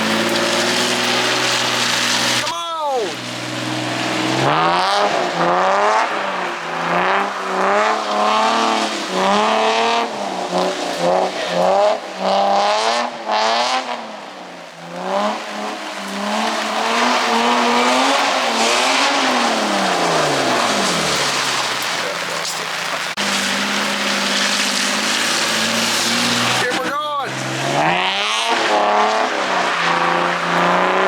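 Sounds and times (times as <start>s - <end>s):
car engine revving hard: 0.0s - 31.0s.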